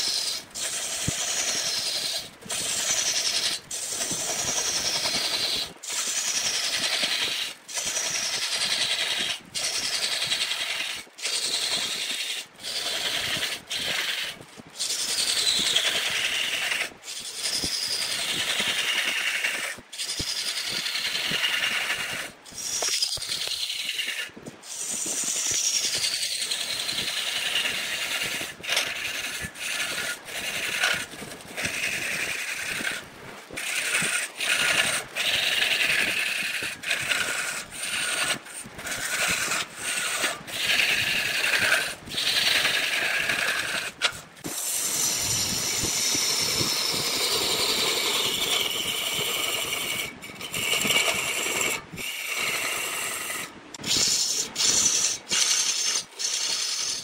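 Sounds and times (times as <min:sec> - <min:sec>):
wood lathe tool cutting: 0:00.0 - 0:57.0.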